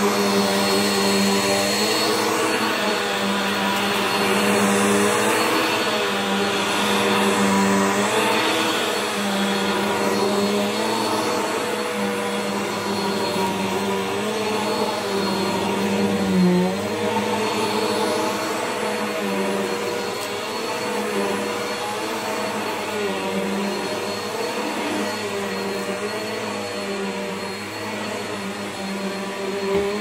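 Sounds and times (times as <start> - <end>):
upright vacuum cleaner running: 0.0 - 30.0.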